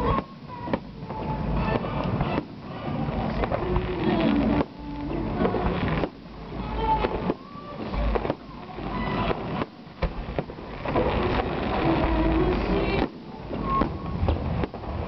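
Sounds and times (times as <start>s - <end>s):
firework shells bursting: 0.0s - 15.0s.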